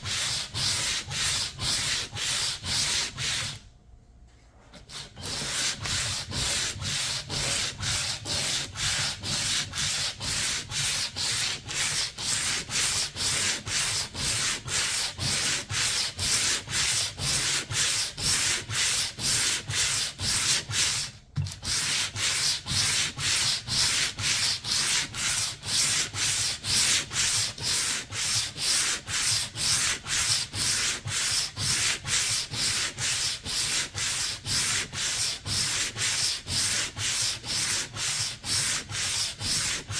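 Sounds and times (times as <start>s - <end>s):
hand sanding with sandpaper: 0.0s - 3.7s, 4.7s - 39.9s.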